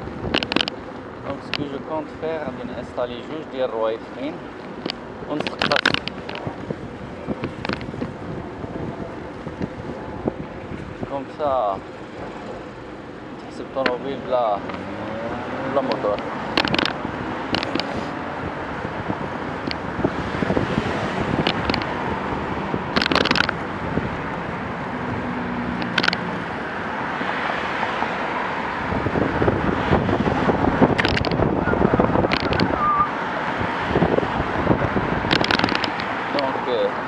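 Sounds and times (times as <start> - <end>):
road traffic passing: 0.0 - 37.0
wind buffeting microphone: 0.0 - 37.0.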